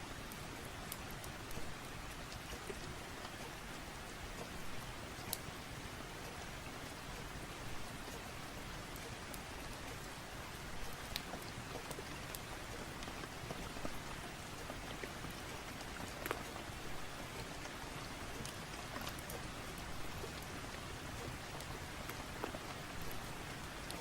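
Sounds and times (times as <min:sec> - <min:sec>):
steady rain hiss: 0:00.0 - 0:24.0
sharp ticks and pops: 0:00.2 - 0:05.6, 0:06.2 - 0:24.0.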